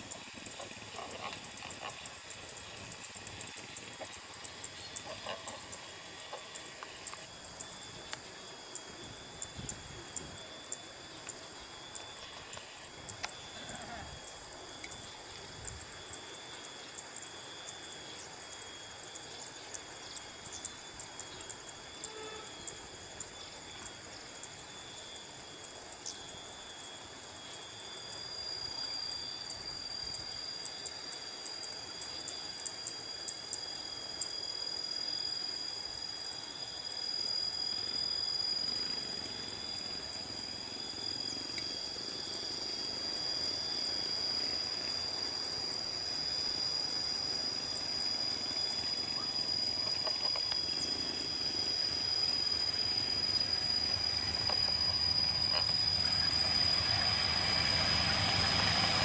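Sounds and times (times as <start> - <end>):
shrill insect drone: 0.0 - 59.0.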